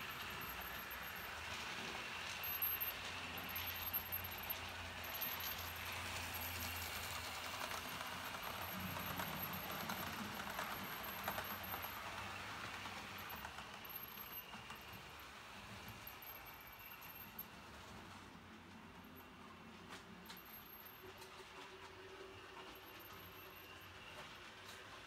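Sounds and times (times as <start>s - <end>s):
model train coaches rumbling: 0.0s - 25.0s
wheels clicking over rail joints: 0.0s - 25.0s.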